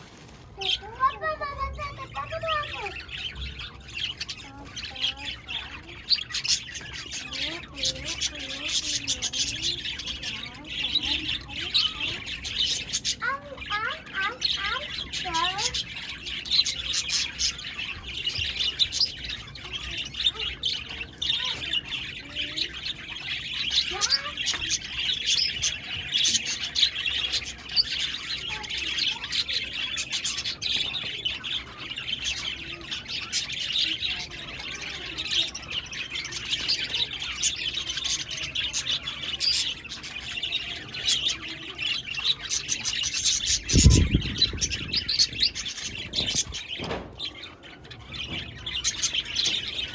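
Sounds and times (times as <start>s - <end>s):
budgerigars chirping: 0.7s - 49.9s.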